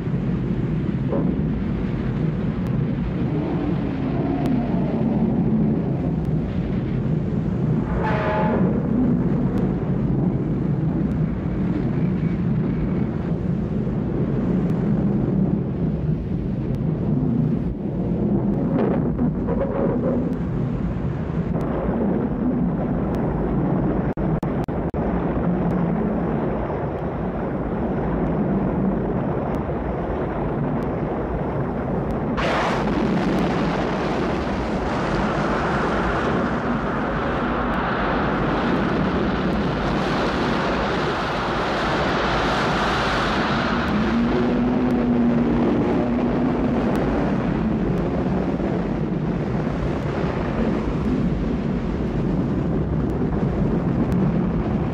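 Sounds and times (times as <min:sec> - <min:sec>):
deep rumbling: 0:00.0 - 0:54.9.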